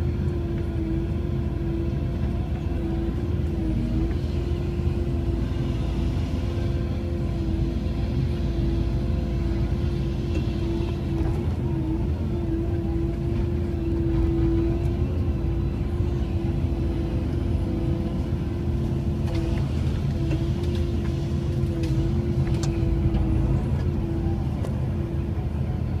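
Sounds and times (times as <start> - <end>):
excavator diesel engine rumble: 0.0 - 26.0.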